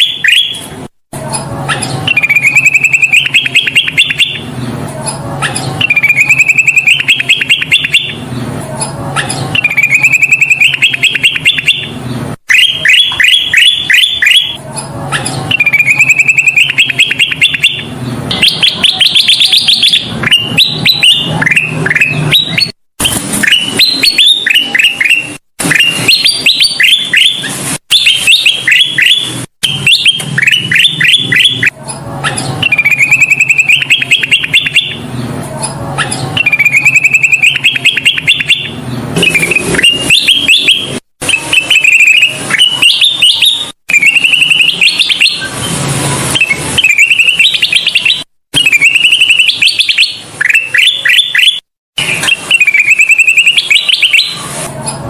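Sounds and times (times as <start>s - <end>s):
bulbul singing rapid notes: 0.0s - 54.6s.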